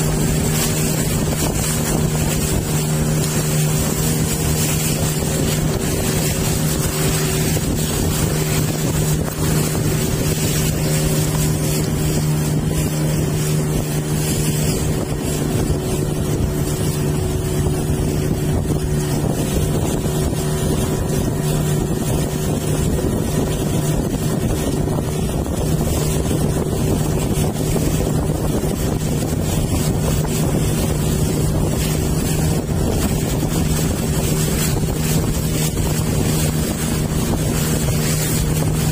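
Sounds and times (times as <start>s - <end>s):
boat engine running: 0.0s - 38.9s
wind buffeting microphone: 0.0s - 38.9s.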